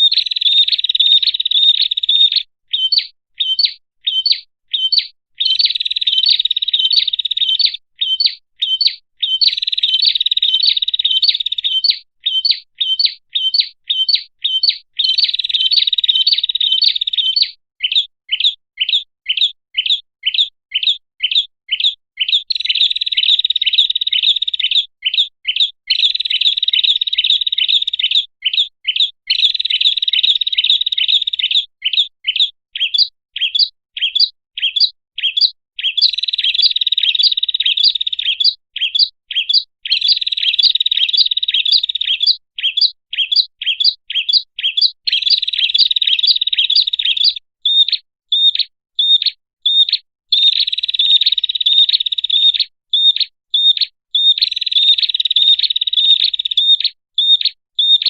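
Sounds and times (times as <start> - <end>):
bird chirping trills: 0.0 - 58.0.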